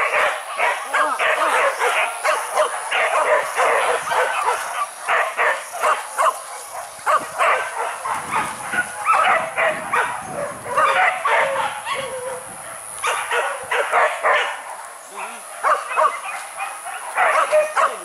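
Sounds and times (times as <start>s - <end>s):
dogs barking rapidly: 0.0s - 18.0s.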